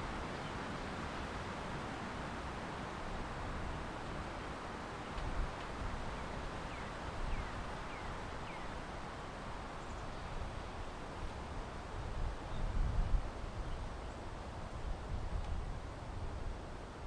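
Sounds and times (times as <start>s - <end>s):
wind rustle: 0.0s - 17.0s.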